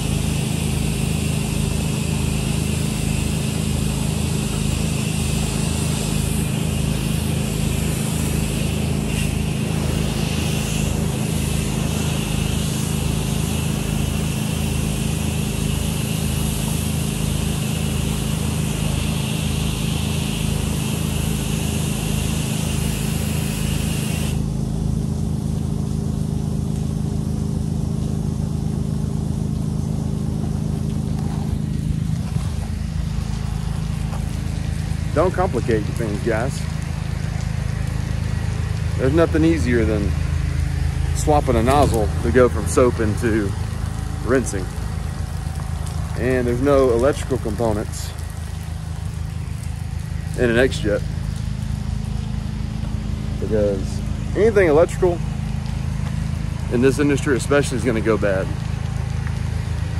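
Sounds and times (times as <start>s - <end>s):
high-pressure water spray hissing: 0.0s - 24.8s, 28.3s - 59.9s
pressure washer engine running: 0.0s - 59.9s.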